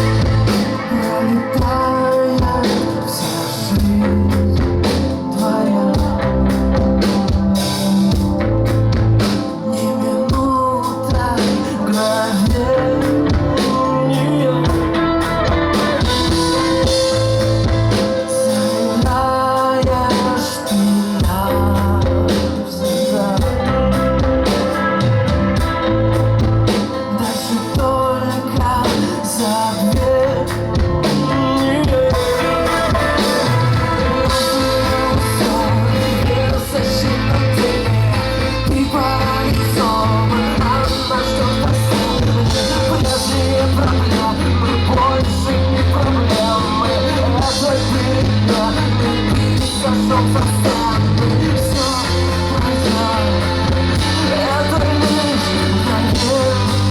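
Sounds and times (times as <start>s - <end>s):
low bass line: 0.0s - 11.4s, 12.0s - 20.1s, 21.2s - 27.2s, 29.9s - 56.9s
drums: 0.0s - 56.9s
live rock band with singing: 0.0s - 56.9s.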